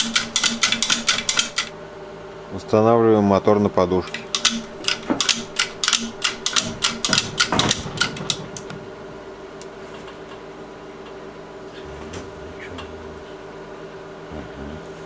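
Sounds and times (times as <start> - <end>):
faint steady hum: 1.0 - 15.0.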